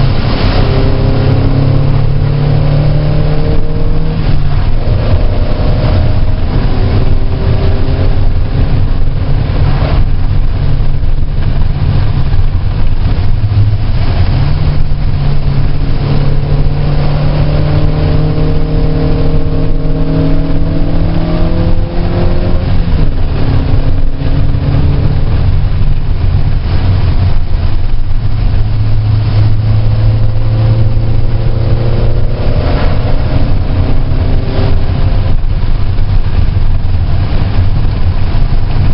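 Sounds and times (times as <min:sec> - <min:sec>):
car engine revving and shifting gears: 0:00.0 - 0:38.9
road noise hiss: 0:00.0 - 0:38.9.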